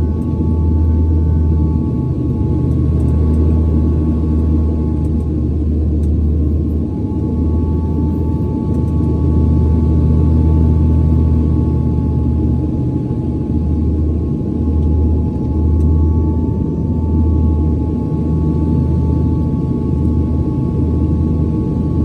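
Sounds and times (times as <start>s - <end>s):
engines and airflow rumble: 0.0s - 22.0s.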